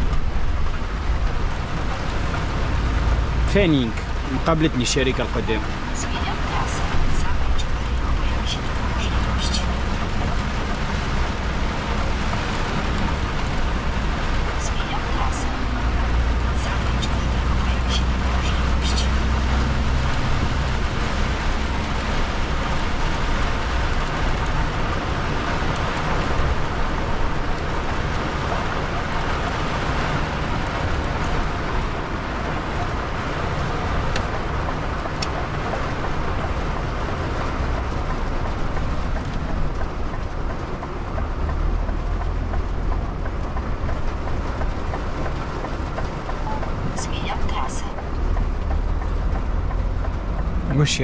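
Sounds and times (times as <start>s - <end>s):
rain on windshield and roof: 0.0s - 51.0s
truck engine and tyres rumbling: 0.0s - 51.0s
windshield wipers: 4.1s - 51.0s.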